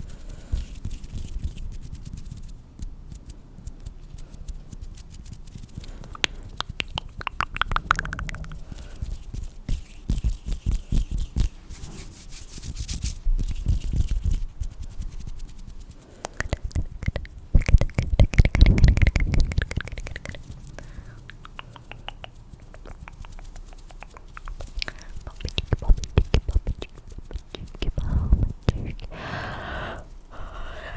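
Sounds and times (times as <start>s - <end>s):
rubbing at microphone: 0.0s - 29.2s.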